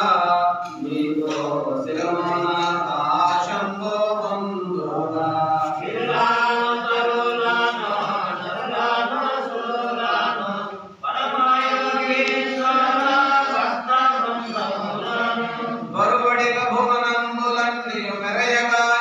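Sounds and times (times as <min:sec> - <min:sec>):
group chanting: 0:00.0 - 0:19.0.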